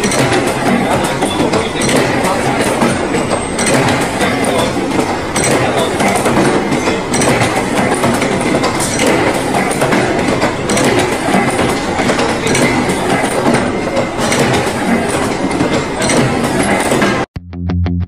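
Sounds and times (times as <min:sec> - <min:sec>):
chain-making machine running: 0:00.0 - 0:17.3.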